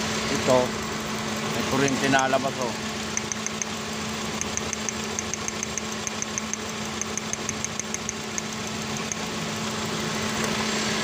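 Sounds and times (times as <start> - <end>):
car engine idling with ticking: 0.0 - 11.0.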